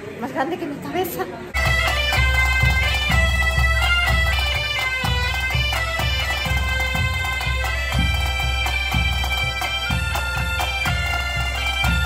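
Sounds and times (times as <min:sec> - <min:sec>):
bagpipes playing melody: 0:01.6 - 0:12.0
side drums: 0:01.6 - 0:12.0.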